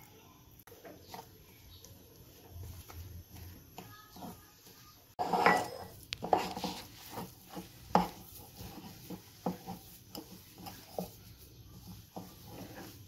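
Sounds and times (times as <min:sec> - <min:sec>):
hand kneading dough in glass bowl: 0:01.0 - 0:13.0.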